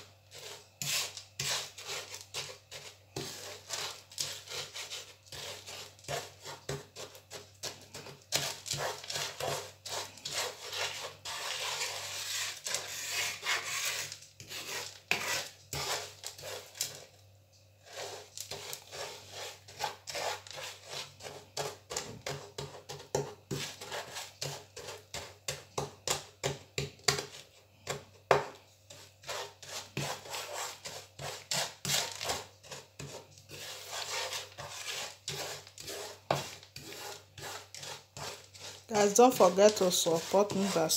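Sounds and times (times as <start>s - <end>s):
wooden spoon scraping sugar in pan: 0.0s - 17.2s, 17.8s - 40.9s.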